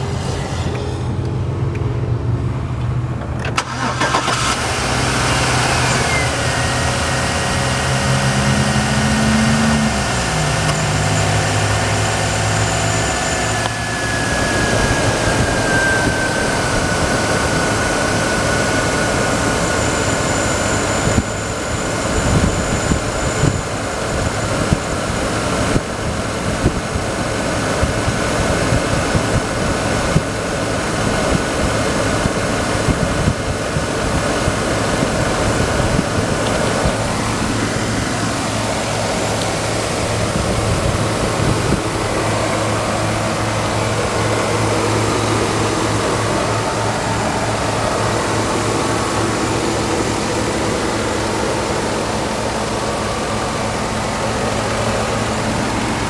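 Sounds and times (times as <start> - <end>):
car engine starting and idling: 0.0 - 56.0.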